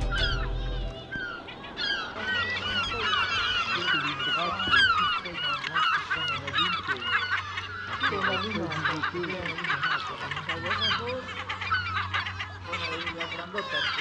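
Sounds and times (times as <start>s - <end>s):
seabird colony calling: 0.0s - 14.0s.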